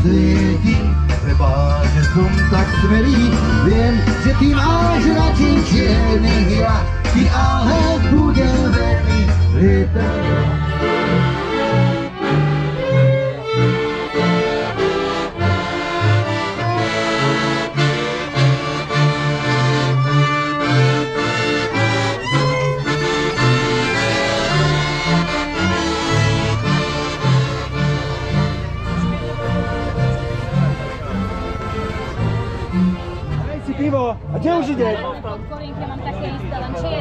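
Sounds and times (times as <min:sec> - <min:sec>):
accordion-led instrumental music: 0:00.0 - 0:37.0.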